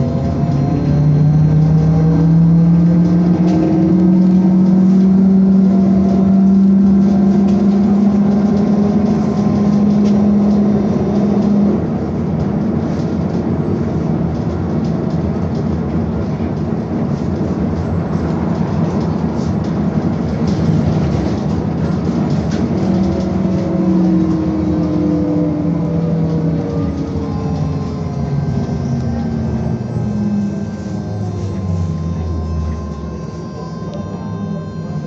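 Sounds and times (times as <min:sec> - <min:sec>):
road and tyre rumble: 0:00.0 - 0:35.0
trolleybus drive whine: 0:00.0 - 0:35.0.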